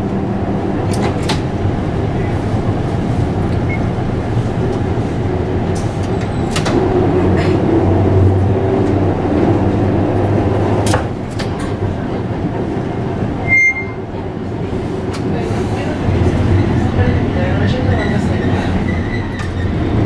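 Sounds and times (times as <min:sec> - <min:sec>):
tram motor hum: 0:00.0 - 0:20.0.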